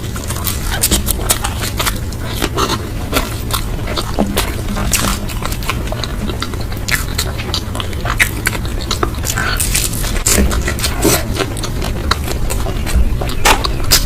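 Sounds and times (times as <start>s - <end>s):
low hum: 0.0s - 14.0s
person chewing food: 0.0s - 14.0s.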